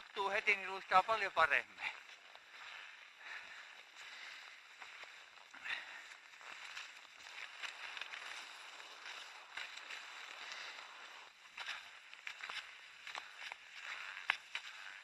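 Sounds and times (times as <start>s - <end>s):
skis swishing on snow tracks: 0.0s - 15.0s.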